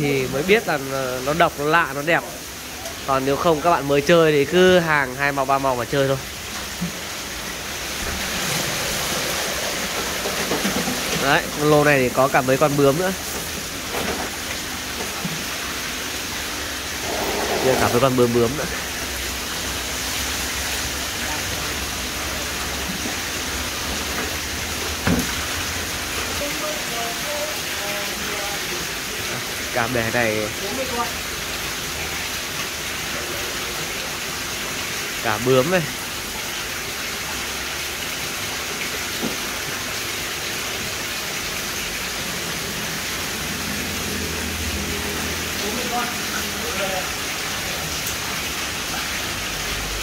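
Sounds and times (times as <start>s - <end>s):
water pouring into plastic basin: 0.4s - 50.0s.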